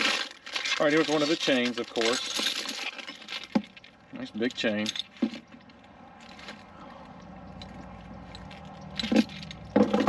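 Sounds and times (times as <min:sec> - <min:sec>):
chain links clinking: 0:00.0 - 0:06.6, 0:07.5 - 0:10.0.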